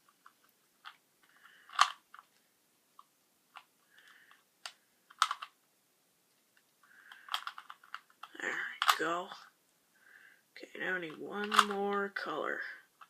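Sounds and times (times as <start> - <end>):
plastic cube clicks and clacks: 0.0 - 5.6, 6.5 - 9.4, 10.8 - 13.0.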